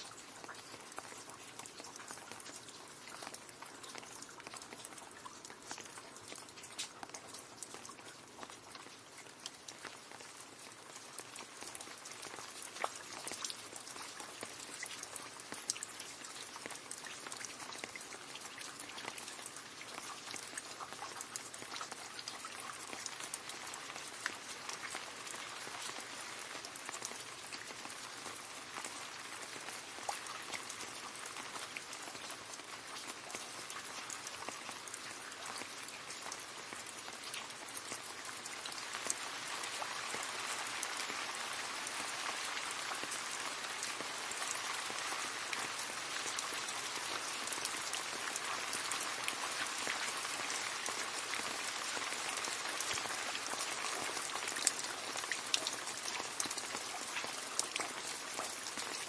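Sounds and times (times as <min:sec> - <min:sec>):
rain falling into a puddle: 0:00.0 - 0:59.0.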